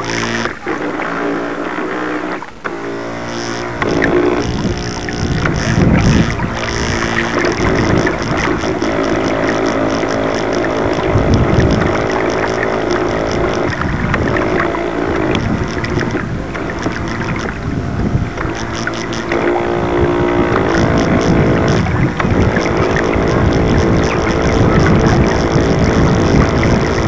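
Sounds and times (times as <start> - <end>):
model boat motor running: 0.0 - 27.0
water rushing along hull: 0.0 - 27.0.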